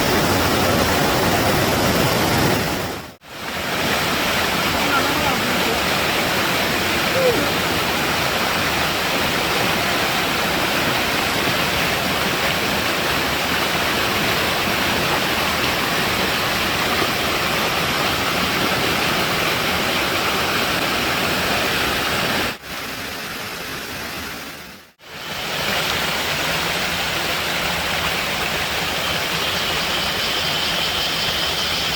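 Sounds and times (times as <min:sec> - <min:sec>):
waterfall roaring: 0:00.0 - 0:31.9.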